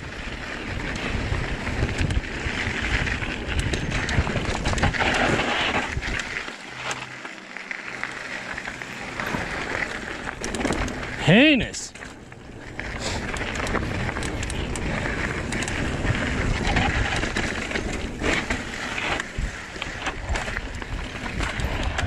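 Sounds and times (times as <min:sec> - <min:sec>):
bike tyres rolling over rocks: 0:00.0 - 0:22.0
wind rumble: 0:00.0 - 0:22.0
bike clattering: 0:00.4 - 0:22.0.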